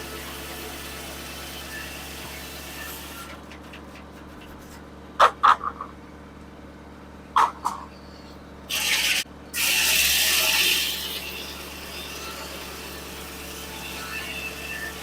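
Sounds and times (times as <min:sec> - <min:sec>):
sawmill power unit running: 0:00.0 - 0:15.0.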